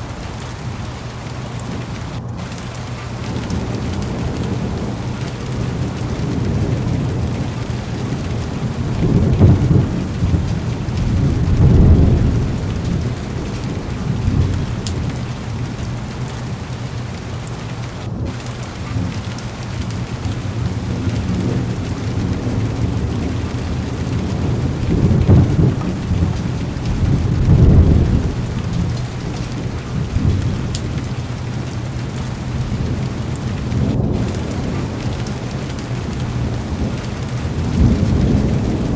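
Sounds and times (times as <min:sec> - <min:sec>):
heavy rain on car window: 0:00.0 - 0:38.9
thunder rolling: 0:00.0 - 0:38.9.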